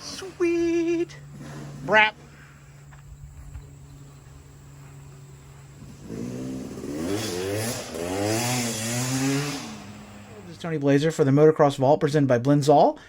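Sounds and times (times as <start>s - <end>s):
motocross bike engine revving: 0.0s - 10.9s.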